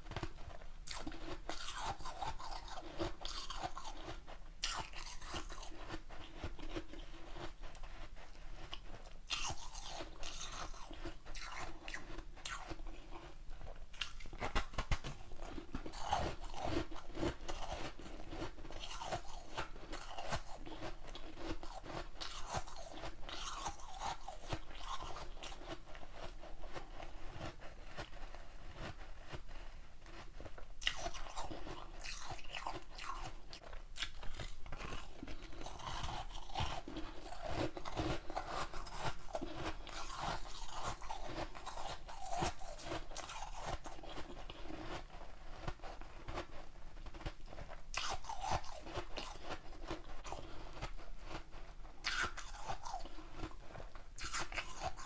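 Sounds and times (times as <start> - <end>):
person chewing ice: 0.0 - 55.0.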